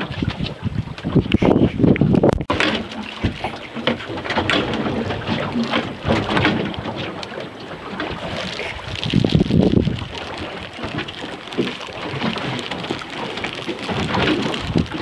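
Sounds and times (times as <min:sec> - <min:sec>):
water sloshing against hull: 0:00.0 - 0:15.0
wind on microphone: 0:00.0 - 0:15.0.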